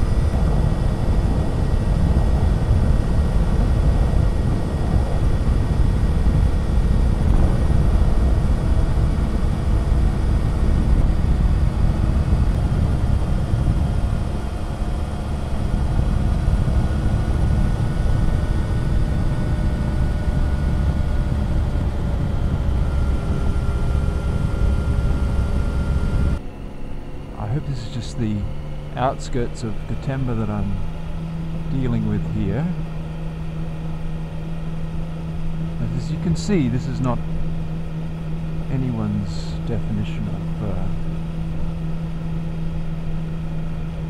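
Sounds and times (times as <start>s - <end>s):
motorcycle engine cruising: 0.0s - 44.0s
wind and road noise: 0.0s - 44.0s.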